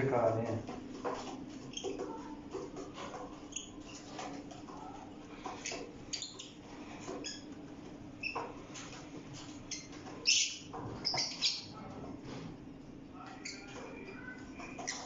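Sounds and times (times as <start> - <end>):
small birds chirping and squawking: 0.0 - 12.4, 13.0 - 15.0.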